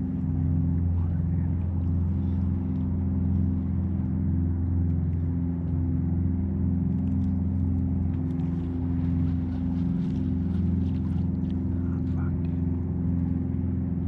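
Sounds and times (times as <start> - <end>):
kayak motor droning: 0.0 - 14.0.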